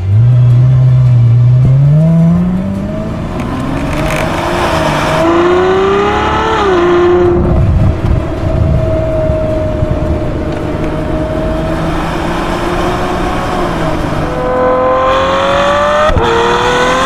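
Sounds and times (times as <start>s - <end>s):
car exhaust accelerating: 0.0s - 17.0s.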